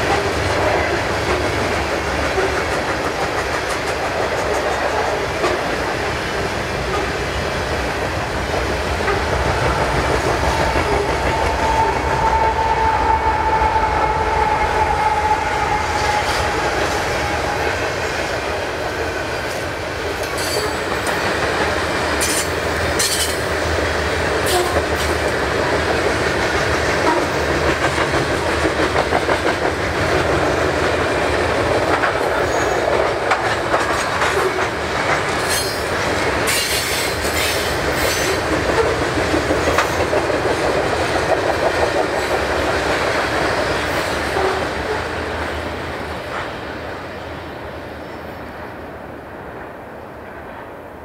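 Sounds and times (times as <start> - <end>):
train cars clanking: 0.0 - 46.9
train wheels clicking on rails: 0.0 - 47.3.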